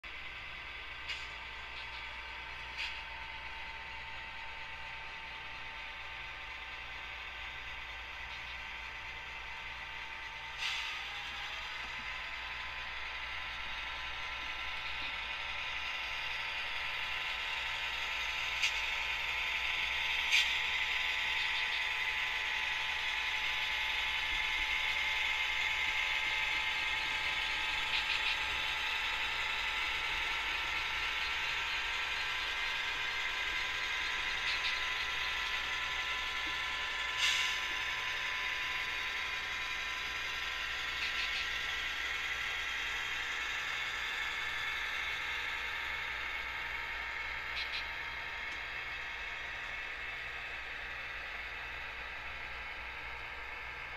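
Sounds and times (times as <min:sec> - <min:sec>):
model train motor whir: 0:00.2 - 0:53.9.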